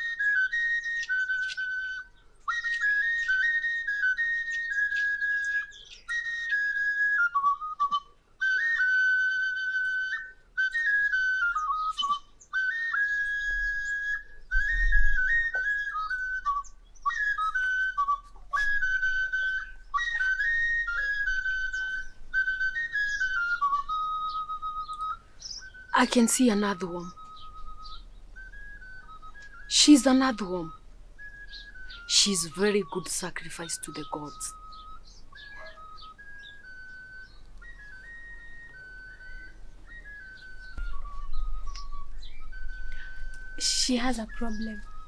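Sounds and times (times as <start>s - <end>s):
high whistle-like melody: 0.0s - 45.0s.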